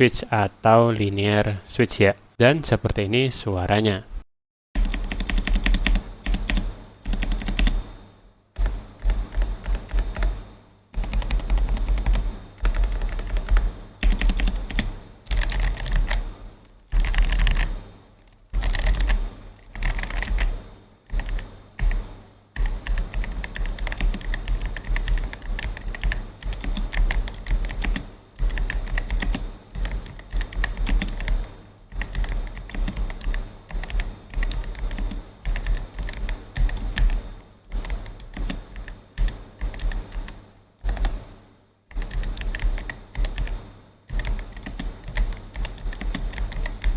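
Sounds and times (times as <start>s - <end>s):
mechanical keyboard typing: 4.8s - 7.8s, 8.6s - 10.3s, 11.0s - 16.2s, 16.9s - 22.0s, 22.6s - 37.2s, 37.8s - 41.2s, 42.0s - 46.9s.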